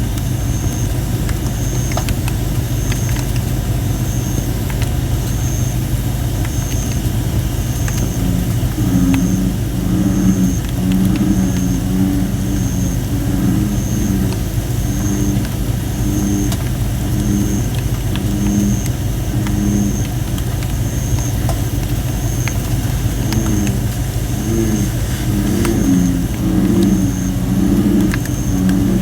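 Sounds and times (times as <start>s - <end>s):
bullfrogs calling: 0.0s - 29.0s
campfire crackling and popping: 0.1s - 29.0s.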